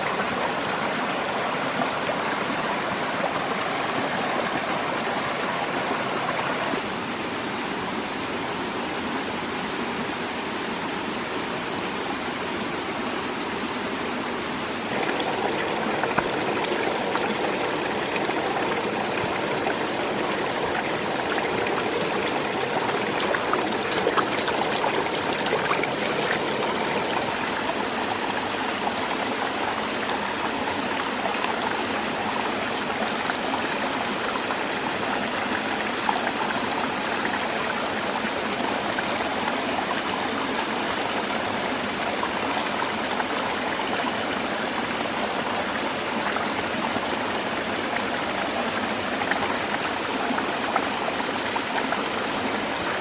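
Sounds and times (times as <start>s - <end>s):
running water rushing and trickling: 0.0s - 53.0s.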